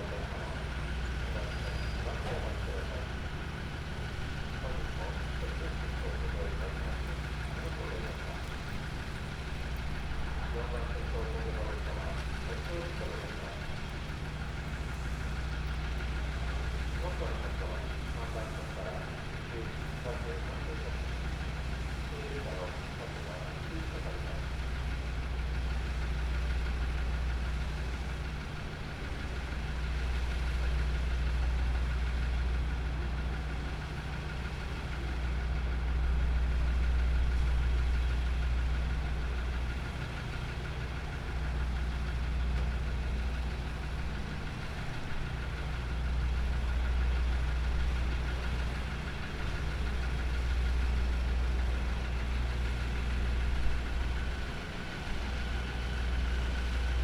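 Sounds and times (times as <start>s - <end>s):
diesel train engine idling: 0.0s - 57.0s.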